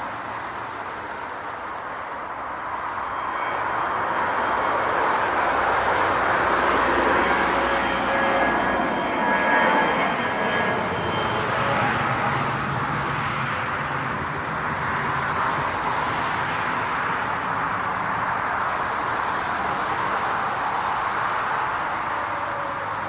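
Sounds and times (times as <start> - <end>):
high engine whine: 0.0 - 23.0
jet engines roaring: 0.0 - 23.0.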